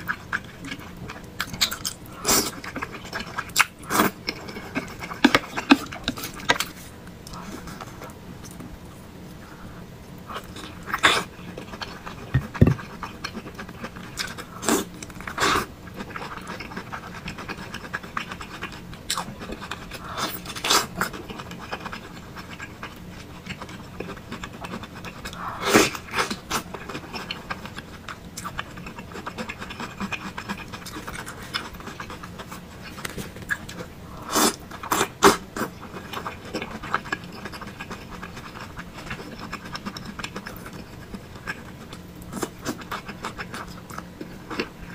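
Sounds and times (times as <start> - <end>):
person slurping and chewing noodles: 0.0 - 8.6, 10.3 - 44.9.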